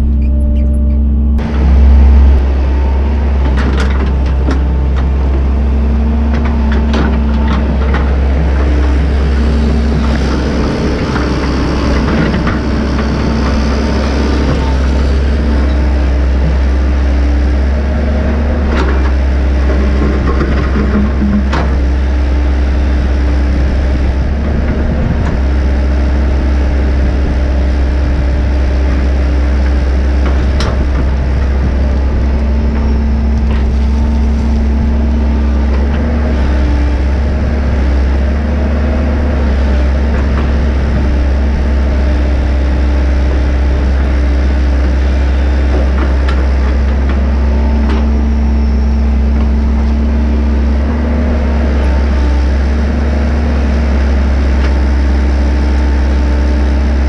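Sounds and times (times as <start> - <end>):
excavator diesel engine drone: 0.0 - 57.0
hydraulic whine: 0.0 - 57.0.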